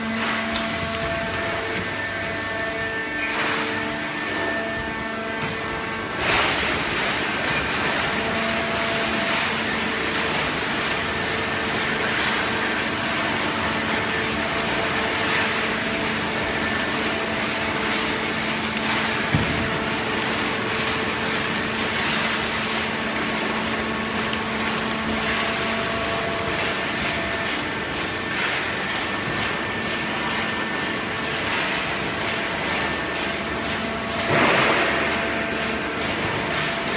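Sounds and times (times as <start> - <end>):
machine motor hum: 0.0 - 31.4
machinery clatter: 6.0 - 36.9.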